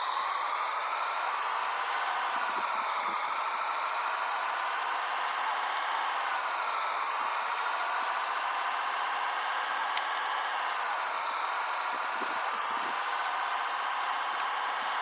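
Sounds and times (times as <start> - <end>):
high wavering whine: 0.0 - 15.0
truck engine running: 0.0 - 15.0.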